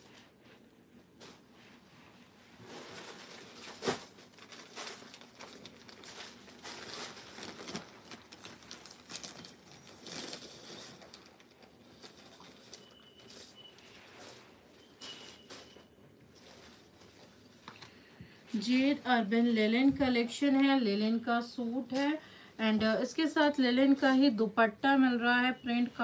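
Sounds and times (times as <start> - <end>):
fabric and plastic rustling: 0.0 - 24.4.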